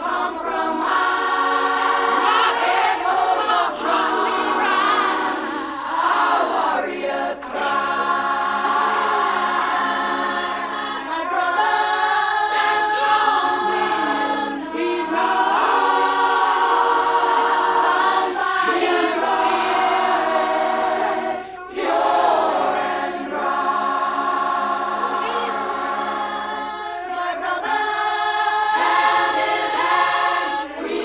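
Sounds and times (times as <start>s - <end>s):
choir singing held chords: 0.0s - 31.0s.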